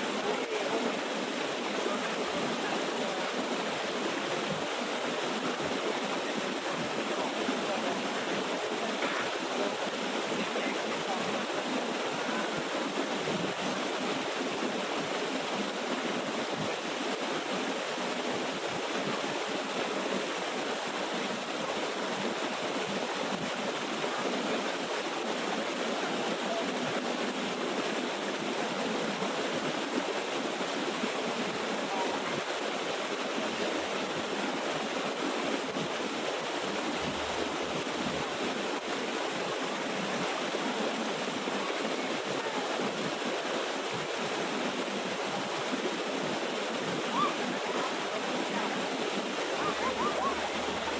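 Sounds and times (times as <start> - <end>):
water rushing over rocks: 0.0 - 50.9.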